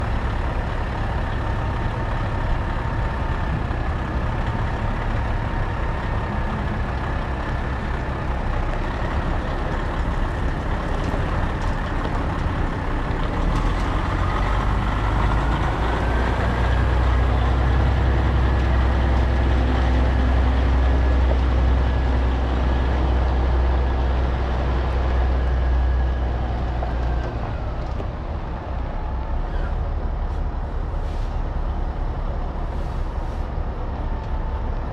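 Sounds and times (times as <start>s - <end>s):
heavy truck engine running: 0.0s - 34.9s.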